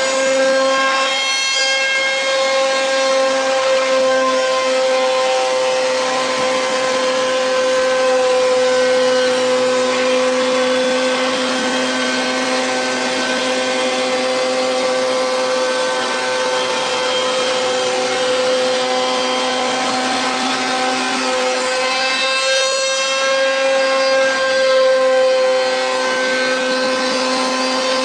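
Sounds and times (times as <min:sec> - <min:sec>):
router spindle whine: 0:00.0 - 0:28.0.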